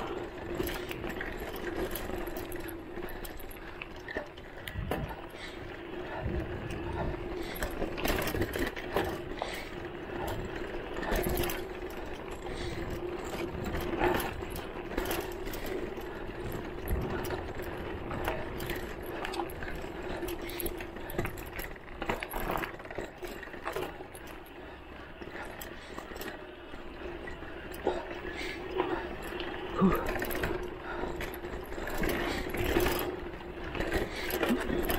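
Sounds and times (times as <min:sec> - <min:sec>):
bike frame rattling and knocking: 0:00.0 - 0:34.9.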